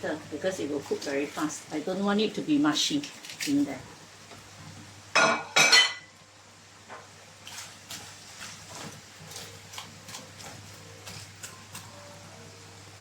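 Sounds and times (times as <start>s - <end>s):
vegetables stirred in pan: 0.0s - 13.0s.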